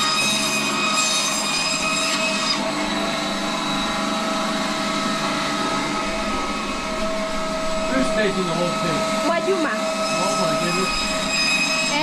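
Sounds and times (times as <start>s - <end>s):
bone-cutting machine motor whine: 0.0s - 12.0s.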